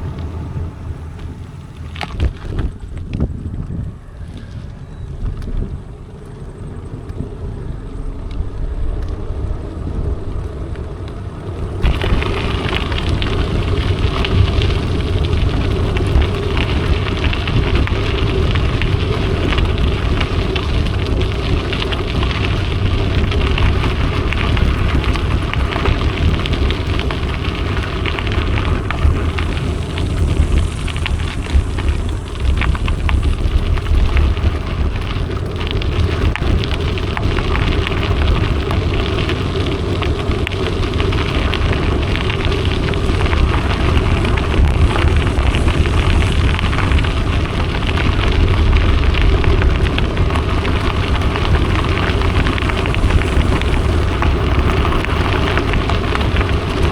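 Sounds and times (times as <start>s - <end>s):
bike tyres crunching on trail: 0.0s - 56.9s
wind buffeting microphone: 0.0s - 56.9s.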